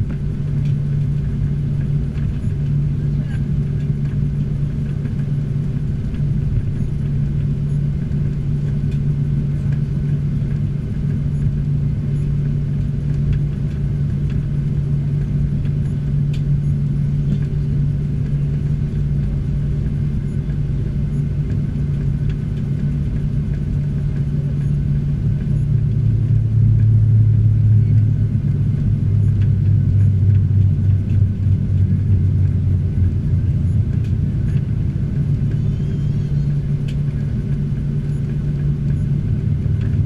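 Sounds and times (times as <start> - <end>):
jet engines idling: 0.0 - 40.0.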